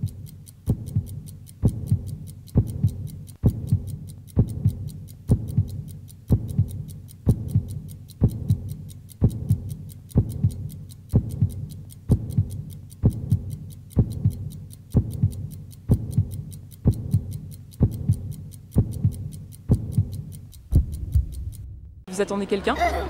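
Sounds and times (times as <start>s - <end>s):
deep double thump beat: 0.0s - 22.1s
fast high ticking: 0.0s - 22.4s.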